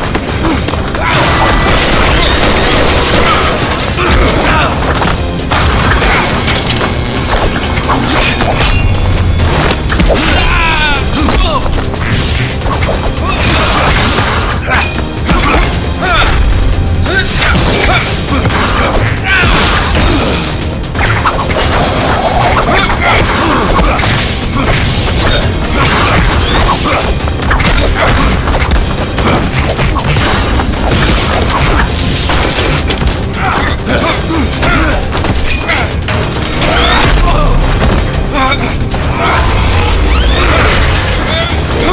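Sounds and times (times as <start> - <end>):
fight scene music: 0.0 - 41.9.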